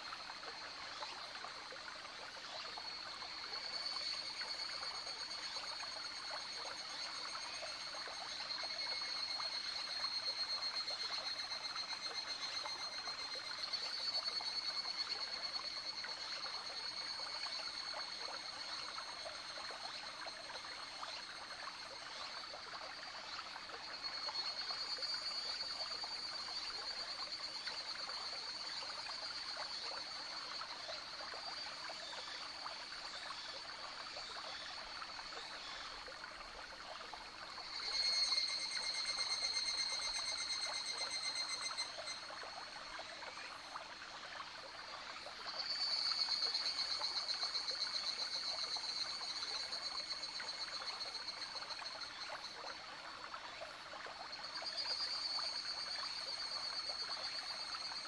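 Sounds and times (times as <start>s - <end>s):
cicadas pulsing chorus: 0.0s - 58.0s
stream trickling and babbling: 0.0s - 58.0s.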